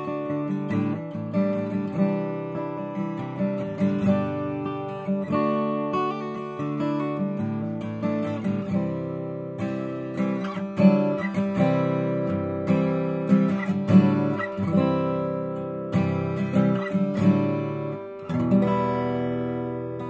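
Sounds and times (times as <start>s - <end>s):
acoustic guitar chords ringing: 0.0s - 20.0s.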